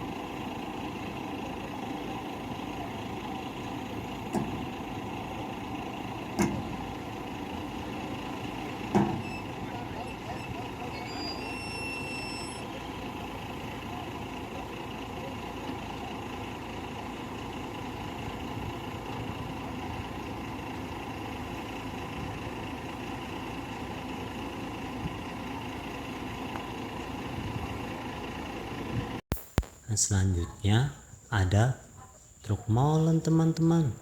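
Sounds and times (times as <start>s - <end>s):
truck engine idling: 0.0s - 29.2s.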